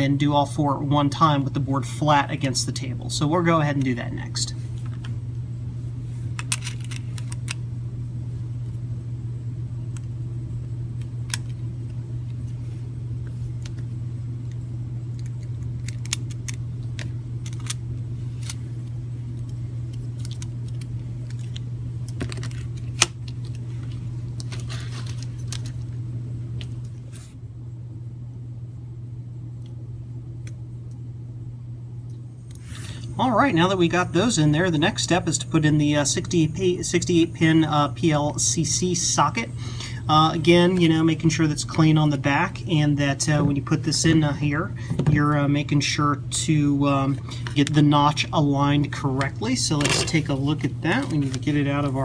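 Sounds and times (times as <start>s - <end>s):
air conditioner humming: 0.0s - 52.0s.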